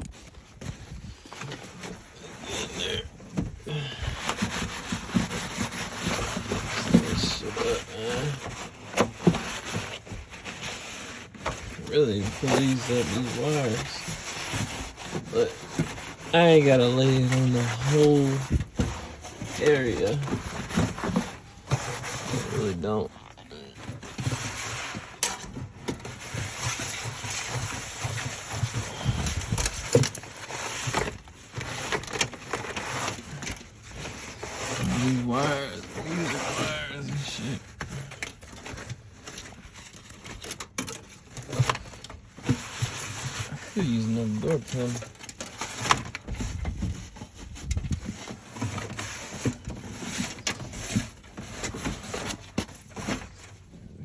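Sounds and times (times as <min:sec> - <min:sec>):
hands rustling and scraping: 0:00.0 - 0:53.8.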